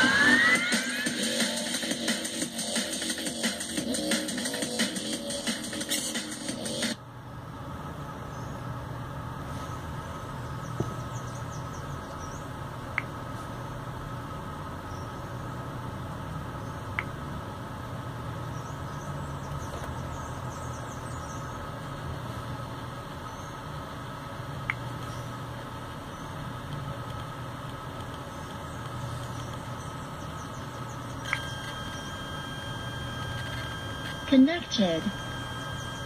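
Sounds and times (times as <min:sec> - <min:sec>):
speaker hum and hiss: 0:00.0 - 0:36.0.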